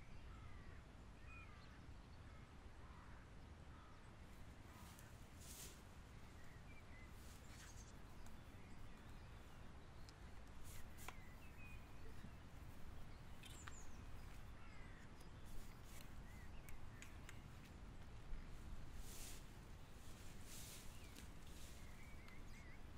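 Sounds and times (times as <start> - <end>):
bird calls: 3.8 - 22.9.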